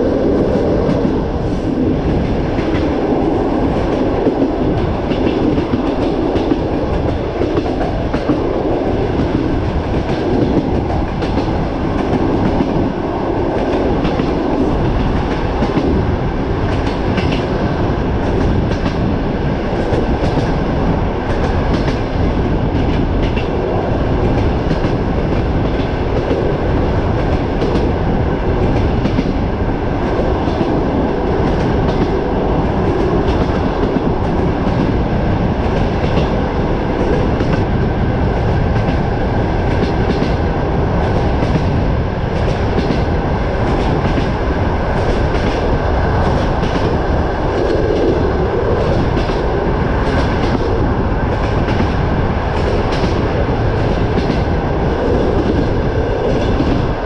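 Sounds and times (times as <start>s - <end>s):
rushing wind: 0.0s - 57.0s
train rumble: 0.0s - 57.0s.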